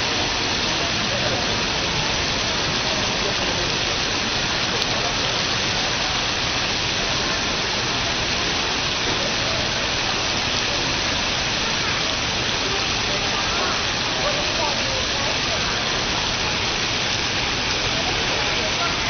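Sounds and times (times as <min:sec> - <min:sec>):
water falling and splashing: 0:00.0 - 0:19.0.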